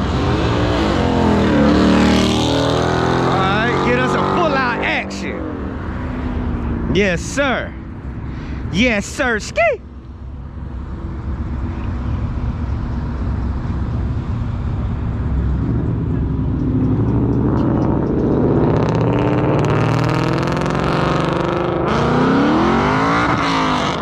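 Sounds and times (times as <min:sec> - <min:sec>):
car engine accelerating hard: 0:00.0 - 0:09.4, 0:10.0 - 0:24.0.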